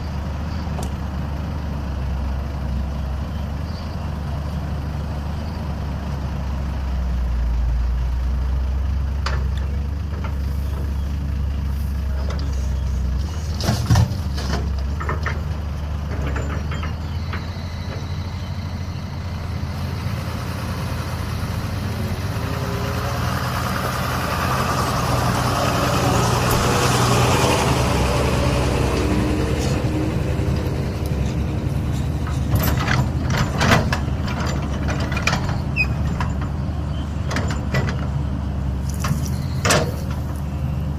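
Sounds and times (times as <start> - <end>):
excavator diesel engine drone: 0.0 - 40.9.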